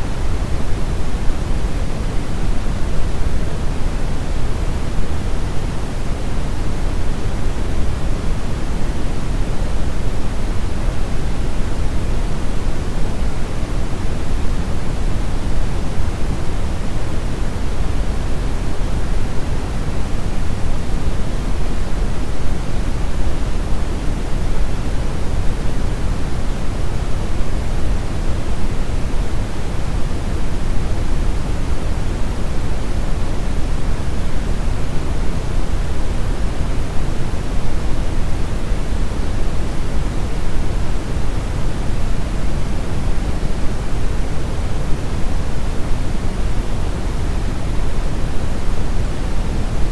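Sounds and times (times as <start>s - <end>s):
brown noise hiss: 0.0s - 49.9s.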